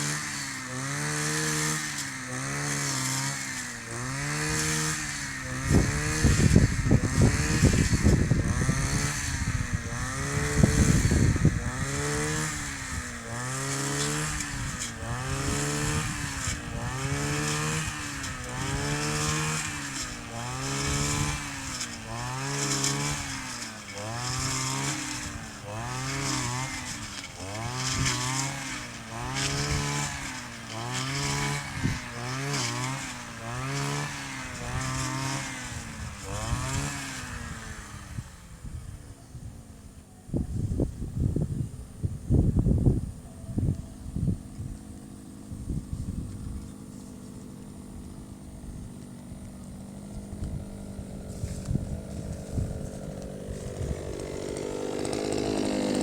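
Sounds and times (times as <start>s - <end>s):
brush cutter cutting reeds and grass: 0.0s - 56.0s.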